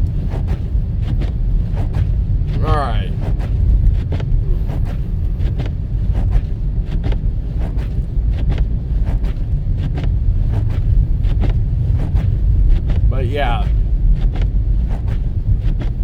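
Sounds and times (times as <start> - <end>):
road and tyre rumble: 0.0 - 16.0.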